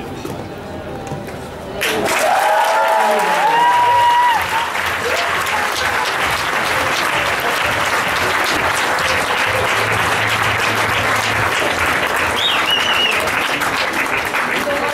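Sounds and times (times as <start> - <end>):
crowd applauding: 1.8 - 14.9.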